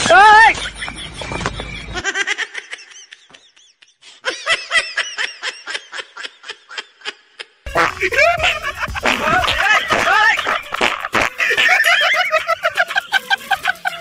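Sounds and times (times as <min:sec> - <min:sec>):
person laughing: 0:00.5 - 0:14.0.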